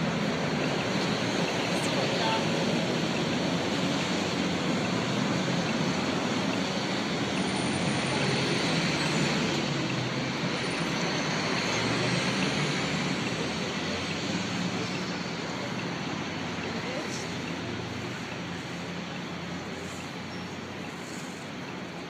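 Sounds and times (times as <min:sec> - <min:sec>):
street traffic: 0:00.0 - 0:22.0
tram running on track: 0:00.0 - 0:22.0.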